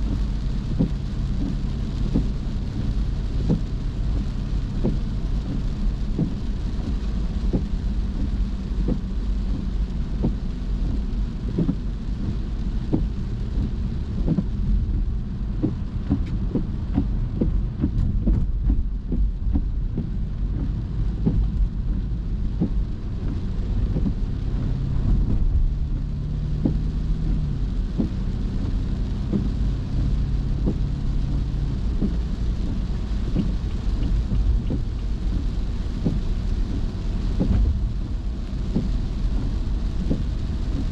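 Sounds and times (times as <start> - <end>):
raindrops ticking on car: 0.0 - 40.9
road and engine rumble: 0.0 - 40.9.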